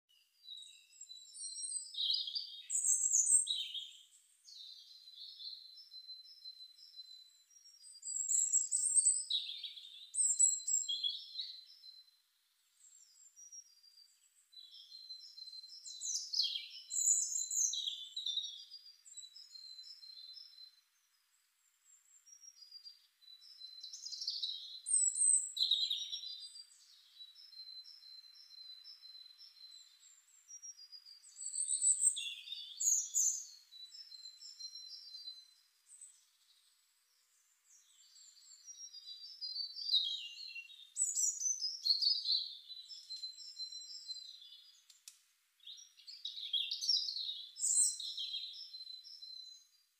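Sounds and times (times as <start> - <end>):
songbird singing: 0.1 - 49.9.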